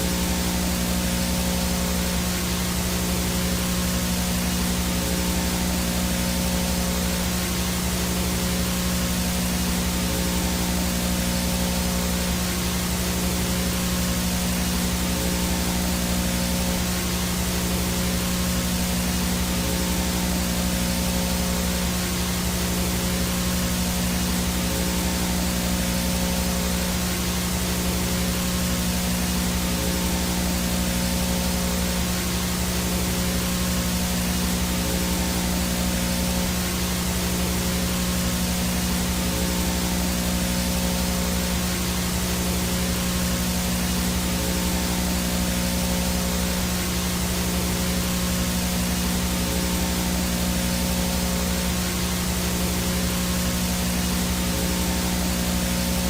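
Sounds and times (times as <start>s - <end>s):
low buzzing hum: 0.0s - 56.0s
static hiss: 0.0s - 56.0s
thin high whine: 0.0s - 56.0s.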